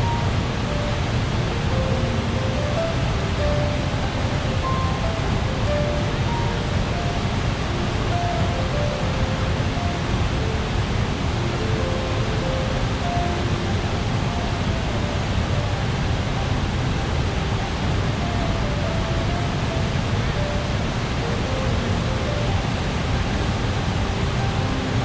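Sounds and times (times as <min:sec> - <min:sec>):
soft melody of held notes: 0:00.0 - 0:25.0
waterfall roaring: 0:00.0 - 0:25.0.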